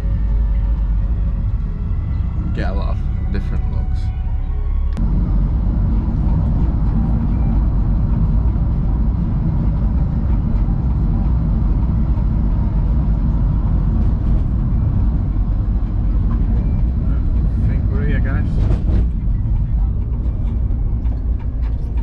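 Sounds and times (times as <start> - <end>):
car cabin road and engine drone: 0.0 - 22.0.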